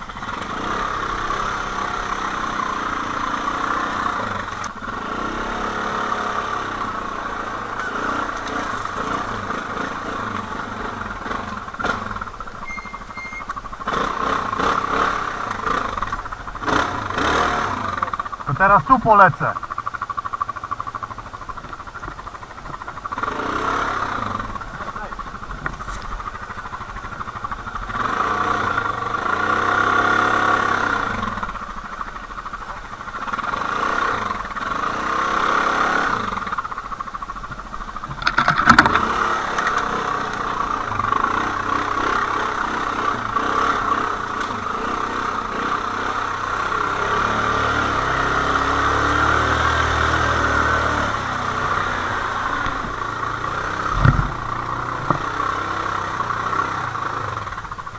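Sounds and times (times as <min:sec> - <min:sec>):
quad bike engine revving: 0:00.0 - 0:57.9.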